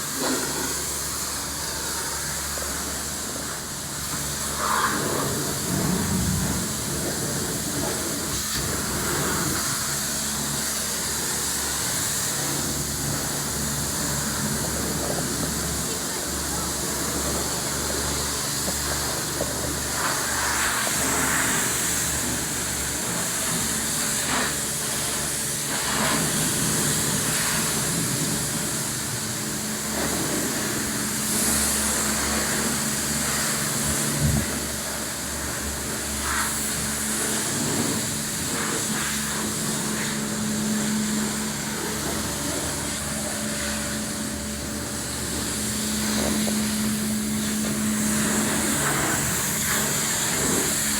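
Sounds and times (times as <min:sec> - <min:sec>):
mechanical hum: 0:00.0 - 0:50.9
spraying hiss: 0:00.0 - 0:50.9.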